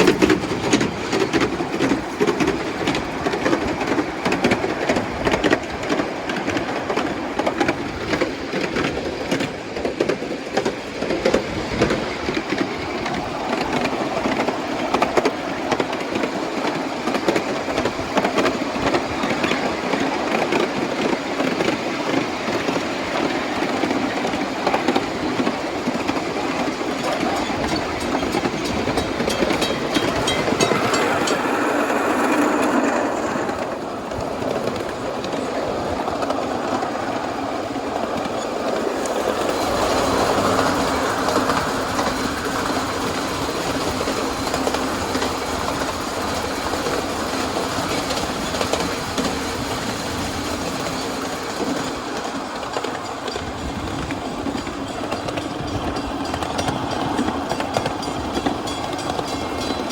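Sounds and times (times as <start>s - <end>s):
train wheels clicking over rail joints: 0.0s - 59.9s.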